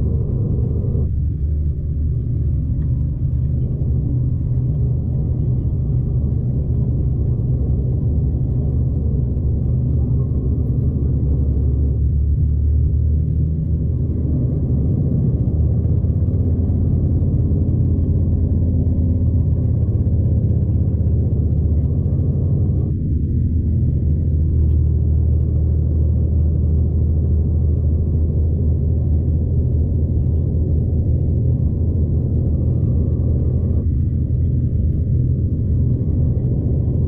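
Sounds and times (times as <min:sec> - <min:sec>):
diesel train rumble: 0:00.0 - 0:37.0.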